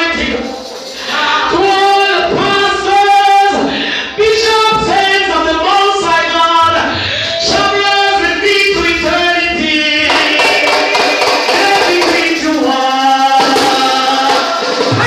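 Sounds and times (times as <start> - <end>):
voices singing in worship: 0.0 - 15.0.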